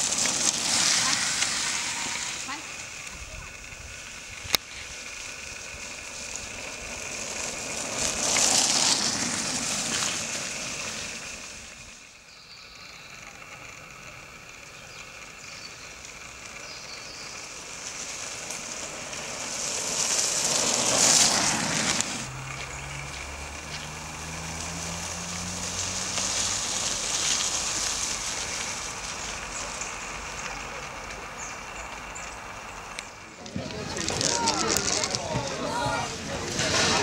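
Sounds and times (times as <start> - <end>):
outdoor hiss: 0.0 - 37.0.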